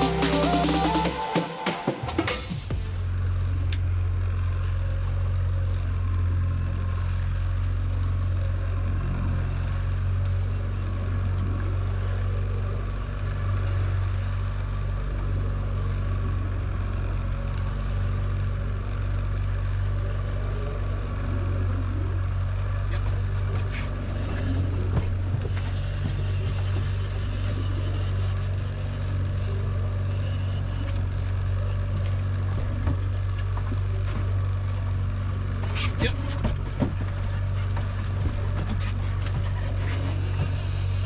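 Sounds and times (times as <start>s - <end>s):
boat motor droning: 0.0s - 41.0s.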